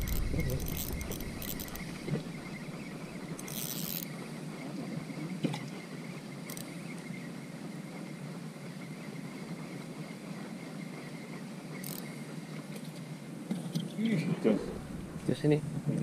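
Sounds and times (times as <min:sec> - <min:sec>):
insects chirping: 0:00.0 - 0:15.6.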